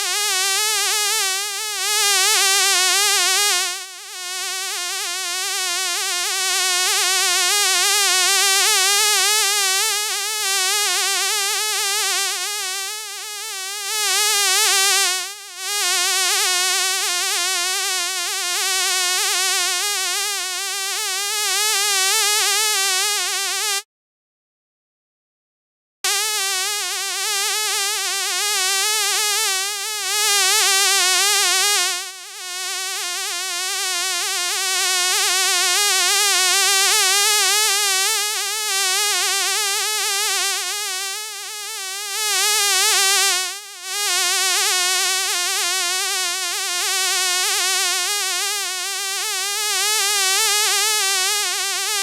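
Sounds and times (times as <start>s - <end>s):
insect buzzing: 0.0s - 23.8s, 26.1s - 52.0s.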